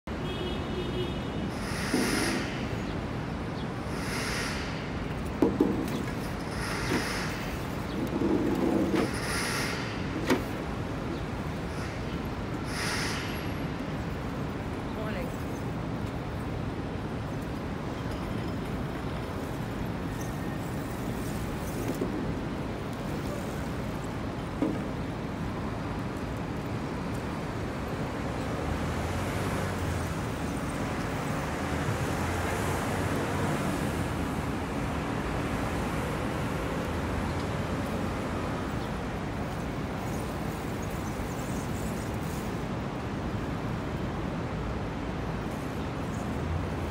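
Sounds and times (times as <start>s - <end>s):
city traffic noise: 0.0s - 46.9s.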